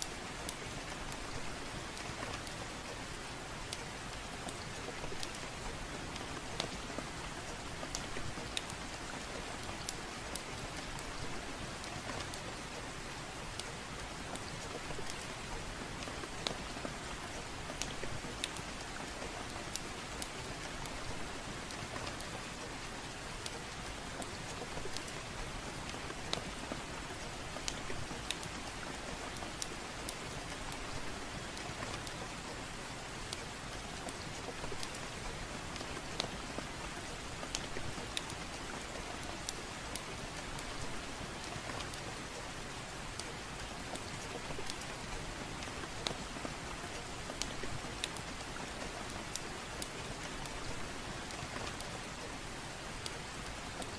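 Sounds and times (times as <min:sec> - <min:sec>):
soft rain falling: 0:00.0 - 0:53.9
wood fire crackling: 0:00.0 - 0:53.9.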